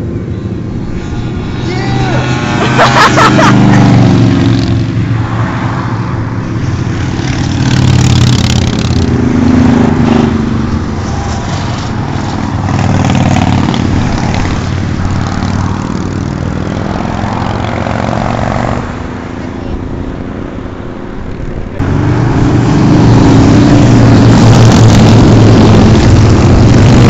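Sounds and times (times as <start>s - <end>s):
motorcycles passing: 0.0s - 27.0s.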